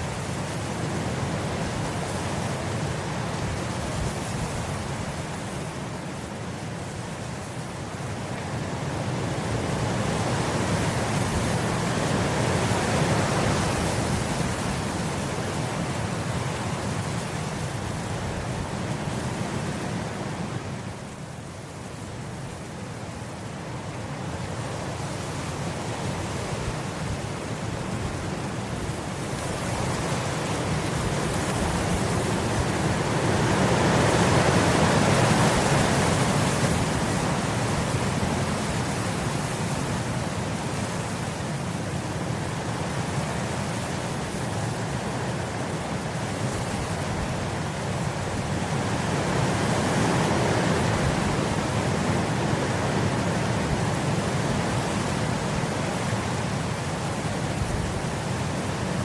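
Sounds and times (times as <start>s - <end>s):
wind blowing through grass: 0.0s - 59.0s.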